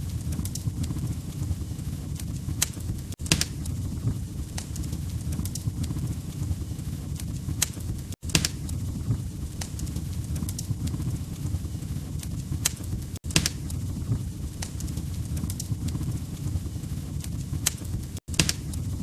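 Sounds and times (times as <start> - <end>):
log fire crackling: 0.0 - 19.0
low rumble of flames: 0.0 - 19.0.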